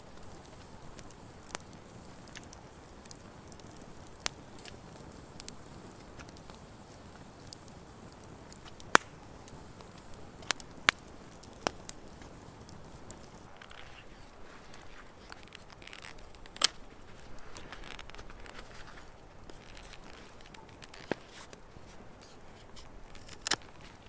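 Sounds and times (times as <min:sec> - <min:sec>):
sharp pops of fire: 0:00.0 - 0:24.0
steady low hiss: 0:00.0 - 0:24.0
wood fire crackling: 0:00.0 - 0:24.0.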